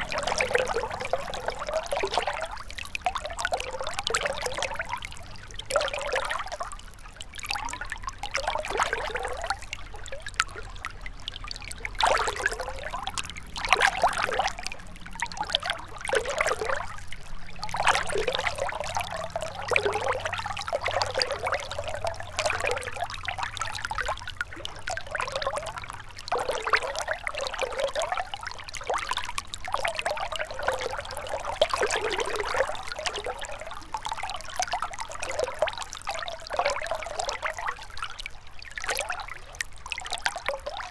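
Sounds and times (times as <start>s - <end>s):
water trickling over stones: 0.0s - 40.9s.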